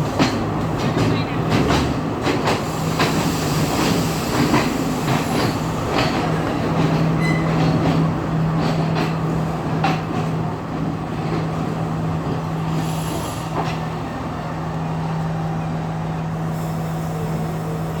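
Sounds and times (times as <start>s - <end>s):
train rumbling on board: 0.0s - 18.0s.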